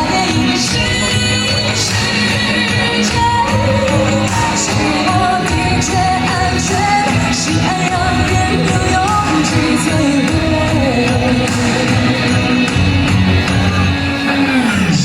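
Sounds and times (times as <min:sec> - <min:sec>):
woman singing pop ballad: 0:00.0 - 0:12.9
backing music with drums: 0:00.0 - 0:15.0.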